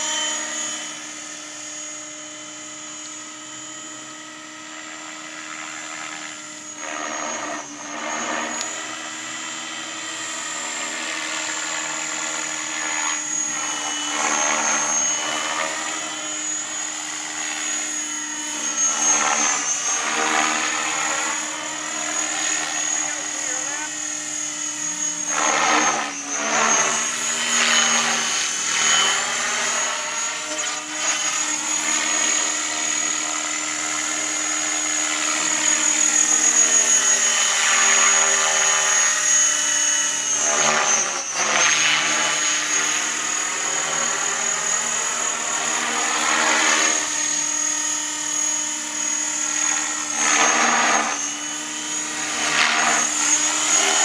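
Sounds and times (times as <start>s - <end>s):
helicopter motor whine: 0.0s - 54.0s
rotor whir: 0.0s - 54.0s.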